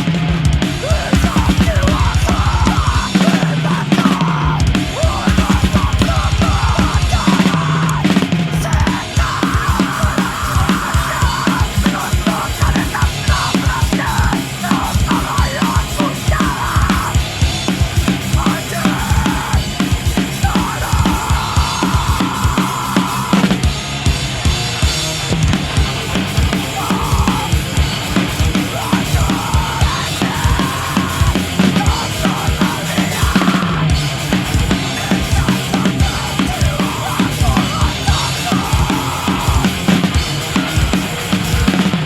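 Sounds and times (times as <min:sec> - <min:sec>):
drum kit playing fast: 0:00.0 - 0:42.0
heavy metal music: 0:00.0 - 0:42.0.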